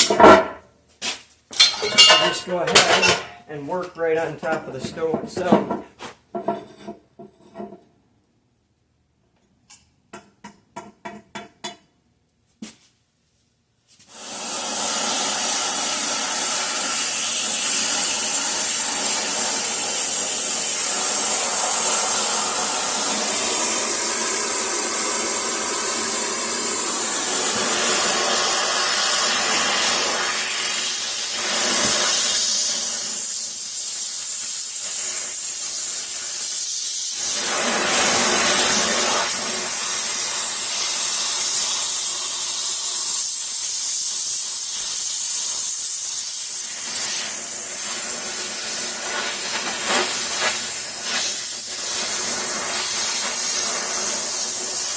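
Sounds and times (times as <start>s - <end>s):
gas welding torch flame hissing: 1.6s - 5.1s, 14.0s - 54.9s.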